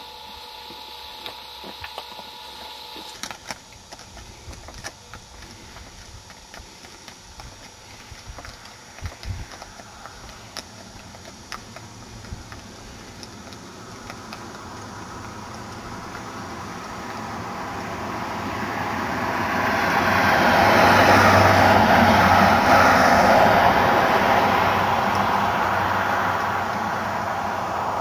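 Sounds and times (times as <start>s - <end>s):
motor vehicle approaching: 0.0s - 28.0s.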